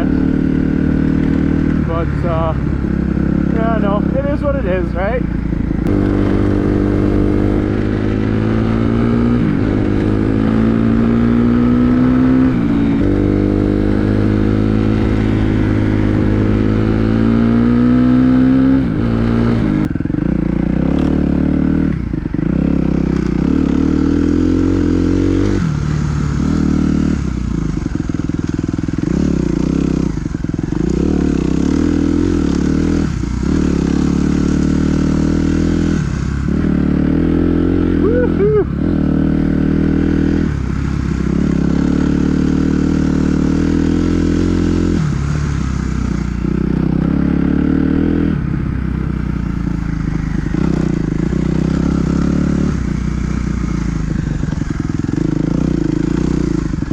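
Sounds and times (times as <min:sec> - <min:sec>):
dirt bike engine revving: 0:00.0 - 0:28.2, 0:28.9 - 0:56.9.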